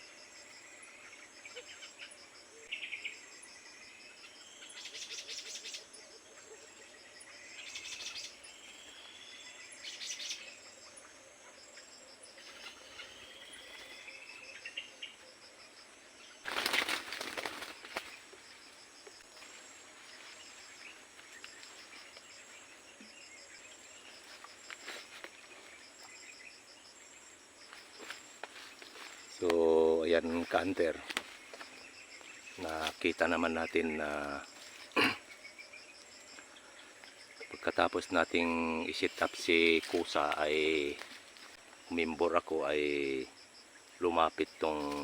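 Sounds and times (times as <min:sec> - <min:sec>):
high insect drone: 0:00.0 - 0:45.0.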